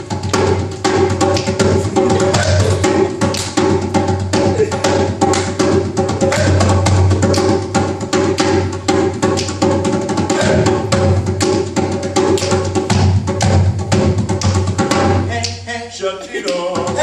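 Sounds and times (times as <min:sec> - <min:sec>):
djembe drum rhythm: 0:00.0 - 0:15.7, 0:16.4 - 0:17.0.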